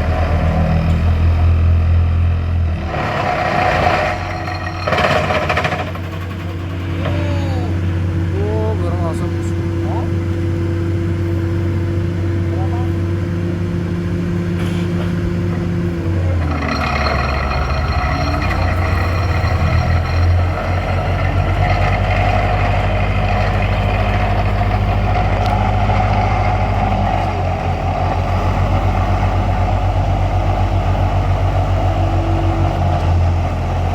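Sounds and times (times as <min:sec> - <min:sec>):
large vehicle engine running: 0:00.0 - 0:33.9.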